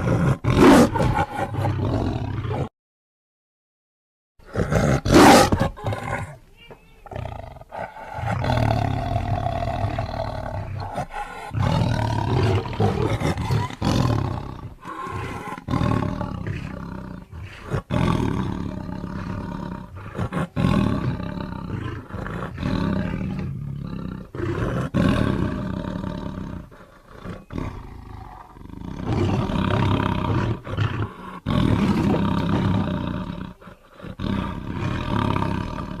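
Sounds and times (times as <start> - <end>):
tiger roaring and growling: 0.0 - 2.7, 4.4 - 6.4, 7.1 - 36.0.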